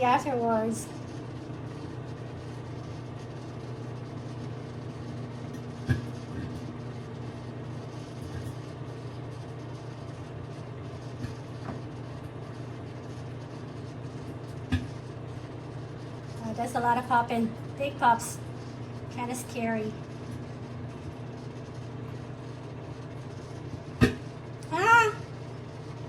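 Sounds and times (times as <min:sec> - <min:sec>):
microwave oven hum: 0:00.0 - 0:26.0.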